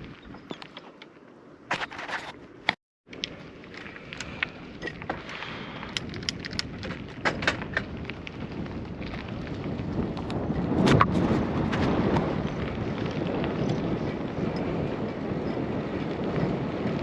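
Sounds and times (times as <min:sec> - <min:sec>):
wind over microphone: 0:00.0 - 0:00.8, 0:03.1 - 0:17.0
bicycle clicks and rattles: 0:00.0 - 0:17.0
tyres on road: 0:00.0 - 0:17.0.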